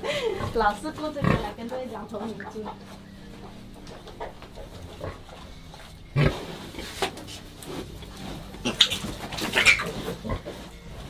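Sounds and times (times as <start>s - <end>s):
pigs grunting: 0.0s - 11.0s
piglets squealing: 0.4s - 11.0s.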